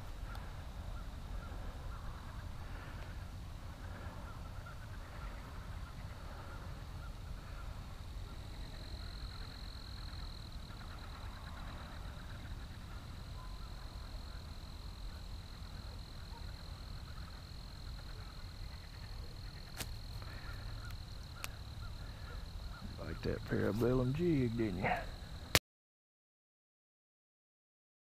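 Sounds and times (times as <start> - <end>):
low outdoor background rumble: 0.0 - 25.6
high insect trill: 0.1 - 25.6.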